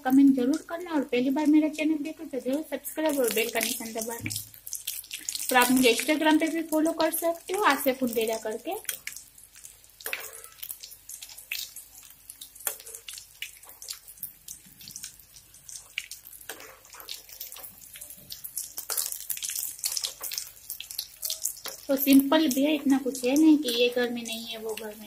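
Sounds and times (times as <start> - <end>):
oil sizzling and popping: 0.0 - 25.0.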